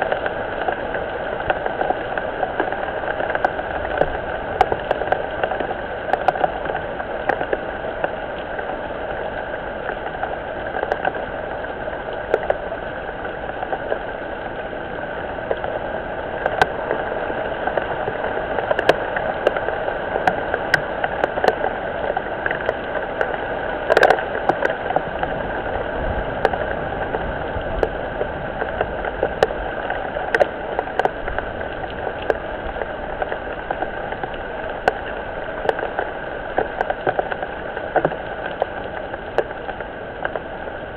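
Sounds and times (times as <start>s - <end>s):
rain drops ticking: 0.0s - 40.9s
rain hiss: 0.0s - 40.9s.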